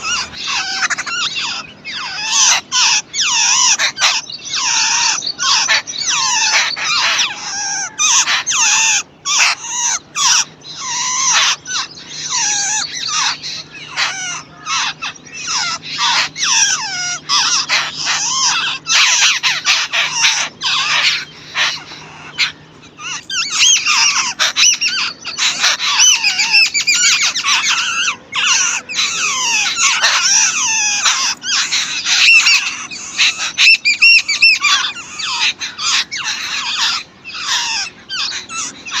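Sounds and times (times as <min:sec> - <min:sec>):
birds chattering: 0:00.0 - 0:39.0.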